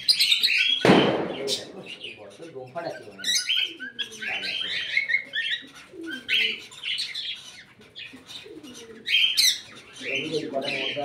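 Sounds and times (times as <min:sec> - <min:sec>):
cockatiels chirping: 0:00.0 - 0:11.0.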